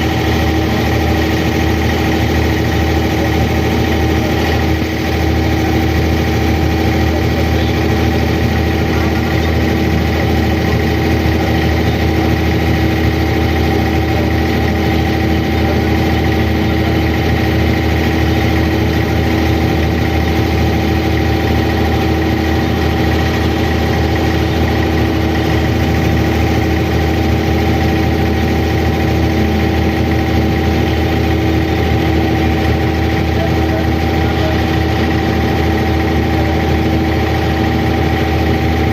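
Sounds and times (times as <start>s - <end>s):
boat diesel engine droning: 0.0s - 38.9s.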